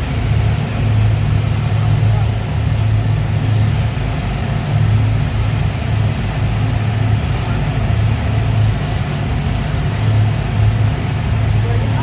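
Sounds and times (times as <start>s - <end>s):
speedboat engines droning: 0.0s - 12.0s.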